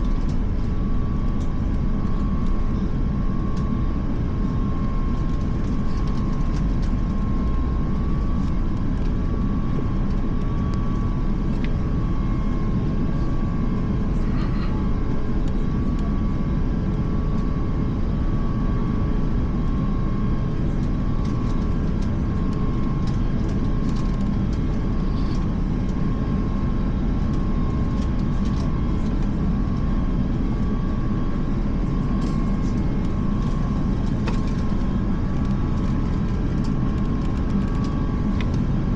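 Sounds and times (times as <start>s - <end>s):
airliner cabin rumble: 0.0s - 38.9s
constant high whine: 0.0s - 38.9s.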